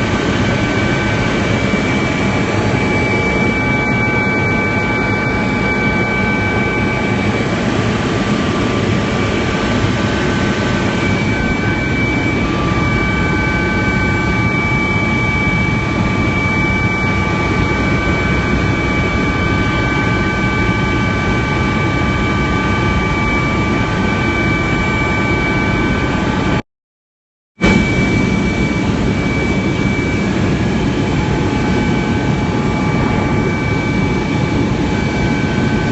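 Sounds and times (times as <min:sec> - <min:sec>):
helicopter engine and rotor drone: 0:00.0 - 0:26.6, 0:27.6 - 0:35.9
high whining tones: 0:00.0 - 0:26.6, 0:27.6 - 0:35.9.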